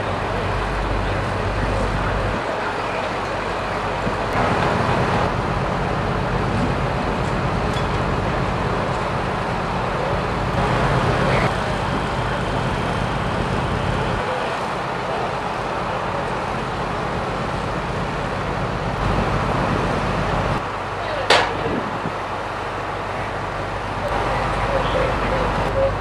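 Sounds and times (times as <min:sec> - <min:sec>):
constant noisy wash: 0:00.0 - 0:26.0
truck engine idling: 0:00.0 - 0:26.0.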